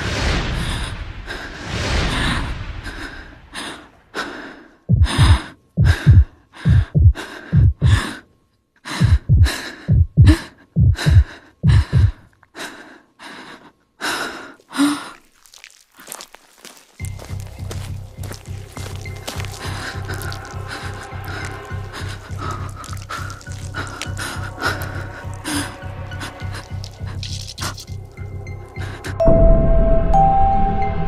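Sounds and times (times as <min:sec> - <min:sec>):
person breathing hard: 0:00.5 - 0:16.3, 0:17.0 - 0:29.2.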